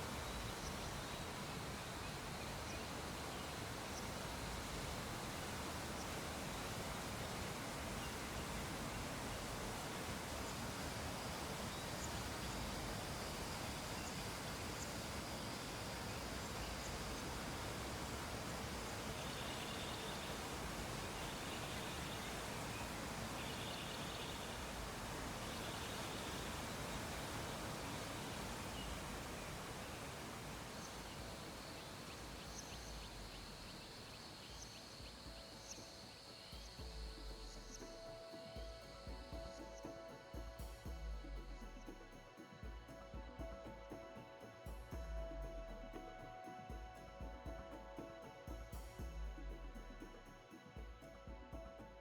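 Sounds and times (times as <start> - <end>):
steady background hiss: 0.0 - 52.0.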